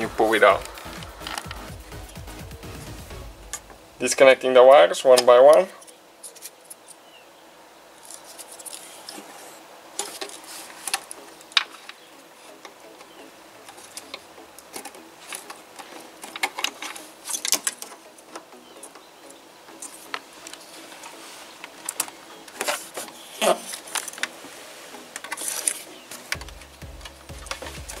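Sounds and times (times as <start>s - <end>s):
wires rustling: 0.0s - 7.0s, 7.9s - 28.0s.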